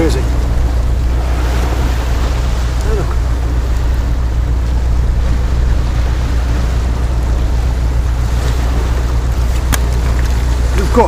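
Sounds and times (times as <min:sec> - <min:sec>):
waves breaking on rocks: 0:00.0 - 0:11.0
wind buffeting microphone: 0:00.0 - 0:11.0.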